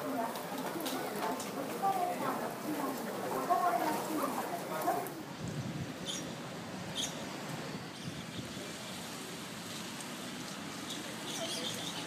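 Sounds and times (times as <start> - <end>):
city background noise: 0.0 - 12.0.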